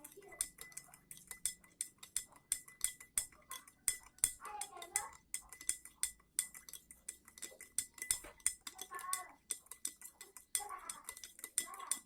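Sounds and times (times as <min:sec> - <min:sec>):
spoon clinking against glass: 0:00.0 - 0:12.0.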